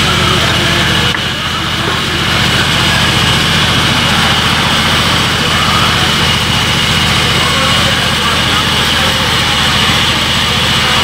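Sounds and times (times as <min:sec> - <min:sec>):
sawmill drive throbbing: 0:00.0 - 0:11.0
steady high tone: 0:00.0 - 0:11.0.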